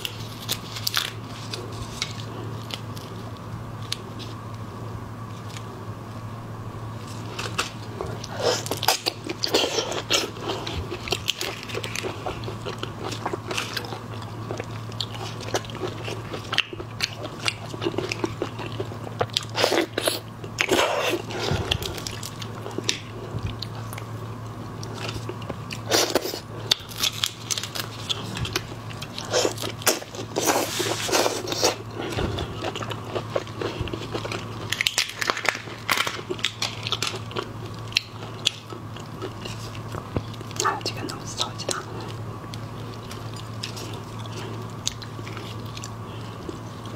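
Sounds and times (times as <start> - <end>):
chewing: 7.0 - 46.9.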